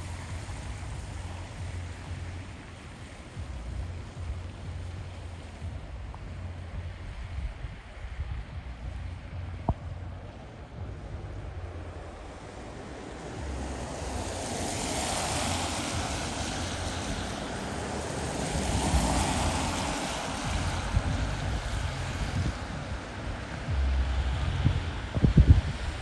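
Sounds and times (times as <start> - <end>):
passing traffic road noise: 0.0 - 26.0
wind rumble on microphone: 0.0 - 26.0.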